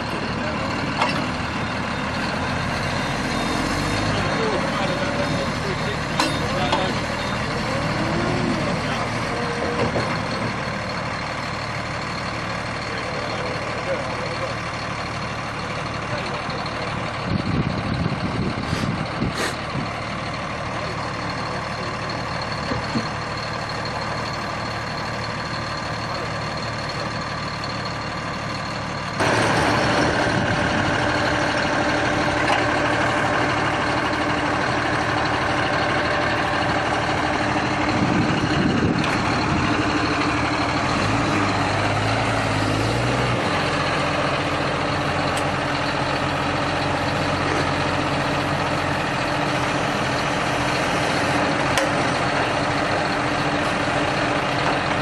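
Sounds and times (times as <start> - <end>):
heavy vehicle engine running: 0.0 - 55.0.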